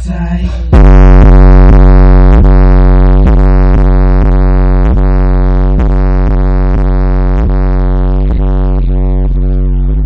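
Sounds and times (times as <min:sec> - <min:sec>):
loud electronic bass music: 0:00.0 - 0:10.0.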